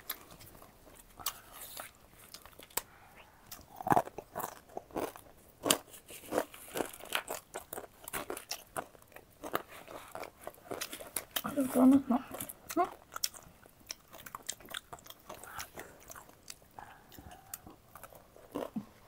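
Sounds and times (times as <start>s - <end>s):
person chewing crunchy food: 0.0s - 11.5s, 12.2s - 19.0s.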